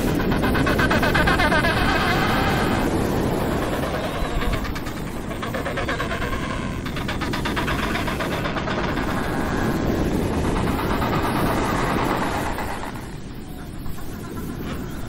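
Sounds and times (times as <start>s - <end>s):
penguins calling: 0.0s - 15.0s.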